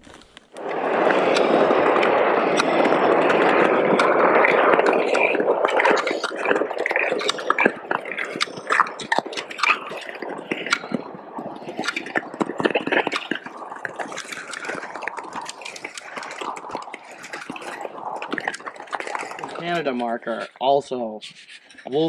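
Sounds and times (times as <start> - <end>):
ice skates scraping on ice: 0.0 - 20.4
ice cracking and pinging: 0.0 - 22.0.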